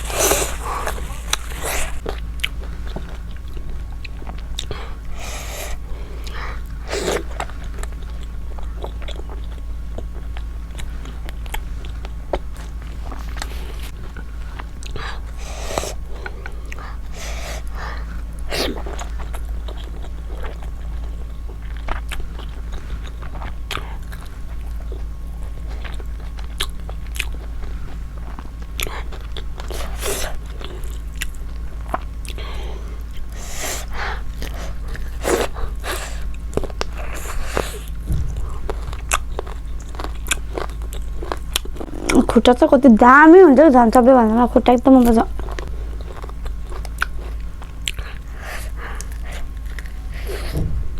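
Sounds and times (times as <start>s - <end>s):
person chewing food: 0.0s - 42.4s, 45.3s - 50.8s
low electrical hum: 0.0s - 50.9s.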